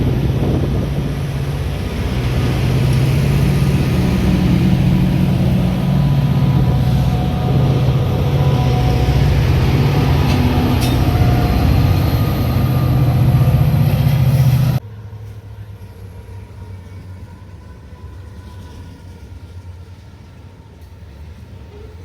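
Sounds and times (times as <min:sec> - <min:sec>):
commuter train rumbling: 0:00.0 - 0:22.0.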